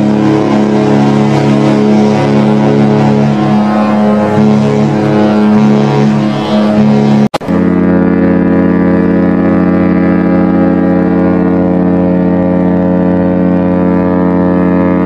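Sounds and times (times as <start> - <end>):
deep ship horn blast: 0.0 - 15.0.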